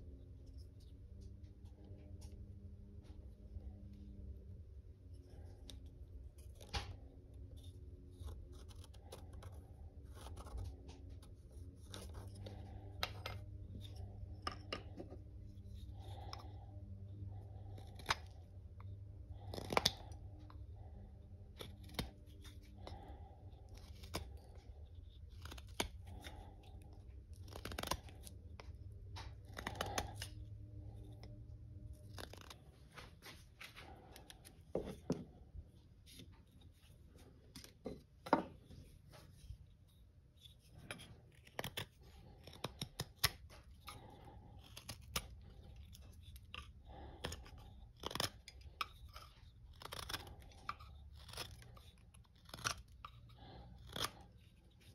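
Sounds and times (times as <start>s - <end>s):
low steady hum: 0.0s - 54.9s
knife scraping wood: 5.1s - 20.8s, 21.5s - 32.7s, 33.8s - 35.4s, 36.0s - 54.9s.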